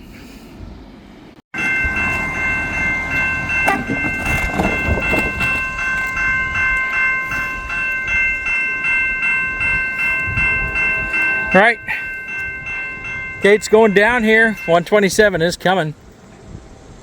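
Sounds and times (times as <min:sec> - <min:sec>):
railroad crossing bell ringing: 0:01.6 - 0:16.0.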